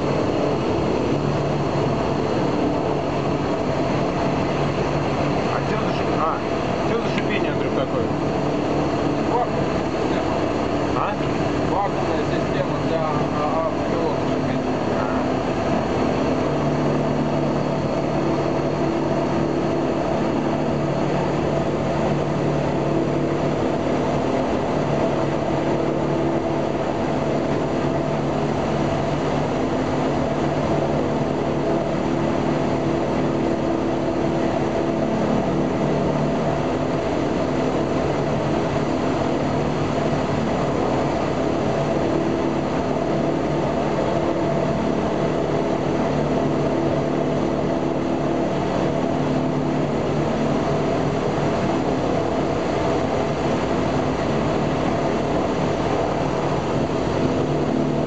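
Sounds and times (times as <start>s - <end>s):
radial engine and propeller drone: 0.0s - 58.0s.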